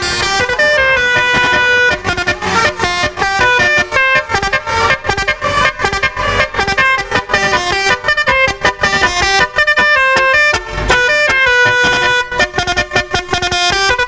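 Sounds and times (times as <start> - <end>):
musical vehicle horns: 0.0 - 14.0.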